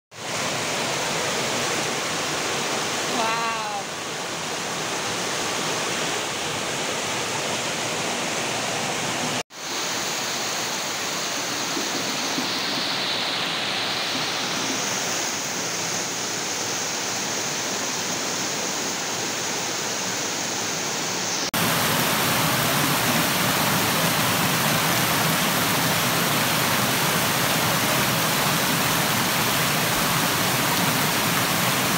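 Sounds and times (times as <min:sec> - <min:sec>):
floodwater rushing over steps: 0:00.1 - 0:20.8, 0:21.5 - 0:31.9.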